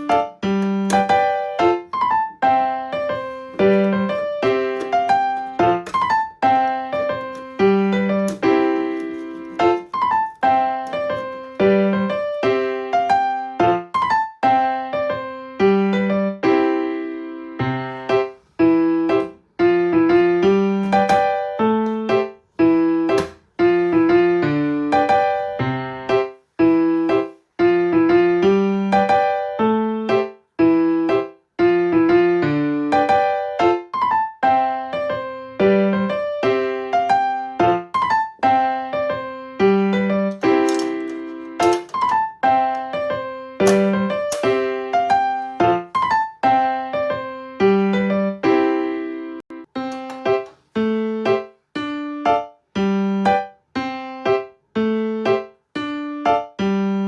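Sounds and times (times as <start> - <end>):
piano tune: 0.0 - 57.0.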